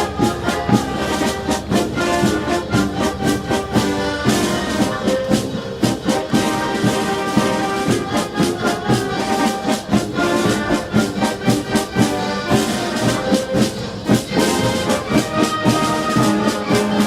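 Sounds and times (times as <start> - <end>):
brass band playing: 0.0 - 17.0
steady drum beat: 0.0 - 17.0.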